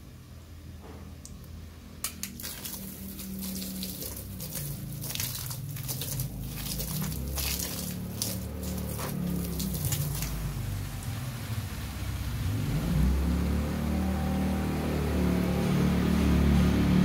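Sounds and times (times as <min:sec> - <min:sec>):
low steady hum: 0:00.0 - 0:17.0
water spraying on leaves: 0:02.1 - 0:16.6.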